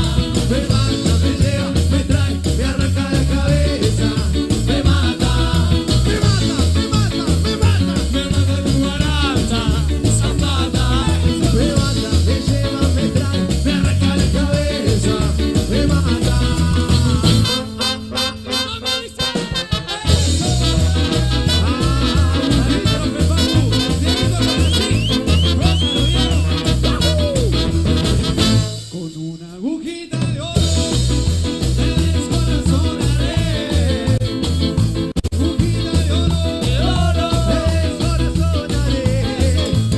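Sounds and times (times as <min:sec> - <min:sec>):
men singing: 0:00.0 - 0:27.9, 0:28.9 - 0:34.8, 0:35.4 - 0:39.9
live band playing: 0:00.0 - 0:39.9.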